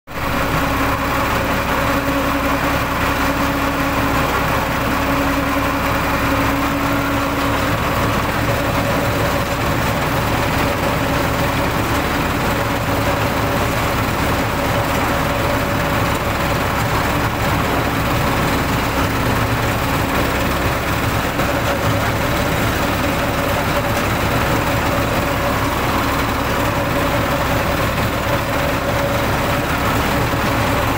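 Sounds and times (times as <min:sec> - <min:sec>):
water gushing from pipe: 0:00.1 - 0:30.9.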